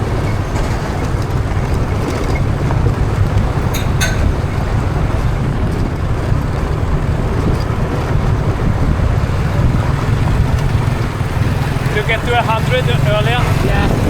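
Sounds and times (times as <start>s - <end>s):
motorbike engine: 0.0s - 14.0s
road noise: 0.0s - 14.0s
wind buffeting microphone: 0.0s - 14.0s.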